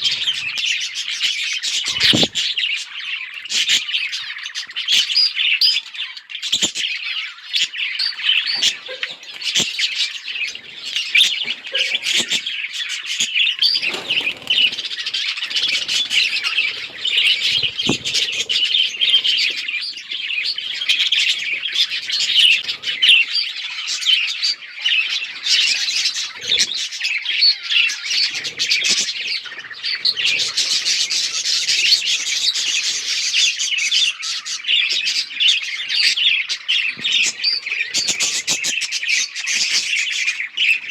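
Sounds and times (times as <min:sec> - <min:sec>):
budgerigars chirping and chattering: 0:00.0 - 0:40.9.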